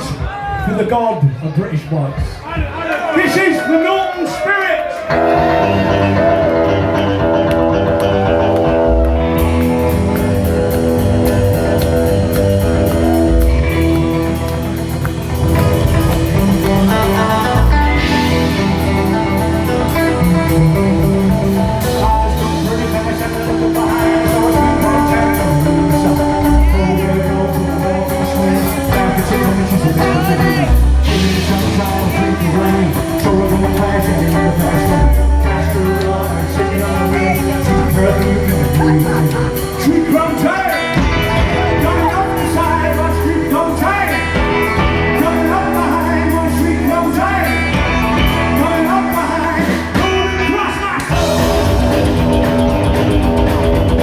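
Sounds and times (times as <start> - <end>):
bass guitar: 5.1 - 54.0
electric guitar: 5.1 - 54.0
person singing: 5.1 - 54.0
drums with steady beat: 5.2 - 54.0.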